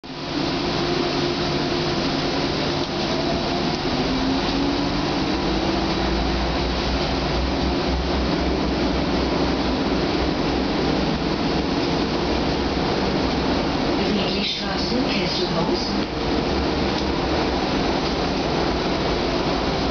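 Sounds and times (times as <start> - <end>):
tram wheels rumbling on rails: 0.0 - 19.9.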